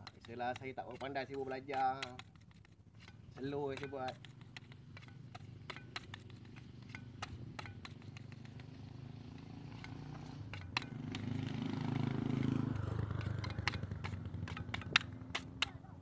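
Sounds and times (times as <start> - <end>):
putty spreader clicks and scrapes: 0.0 - 11.6, 13.0 - 15.7
motorcycle passing: 1.4 - 16.0.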